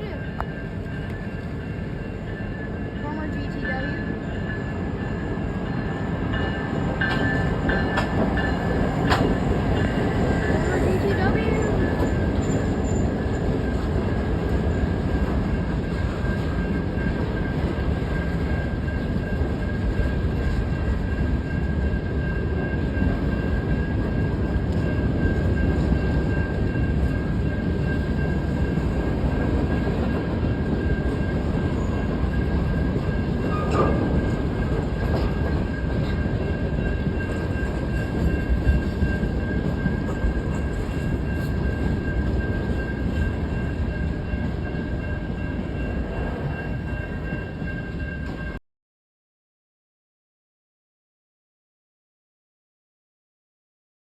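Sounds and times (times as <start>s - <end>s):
train wheels rumbling on rails: 0.0s - 48.6s.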